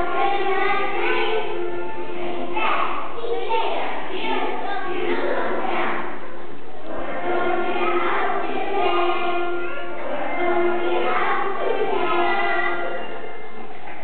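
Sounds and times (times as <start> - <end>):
children singing together: 0.0 - 14.0.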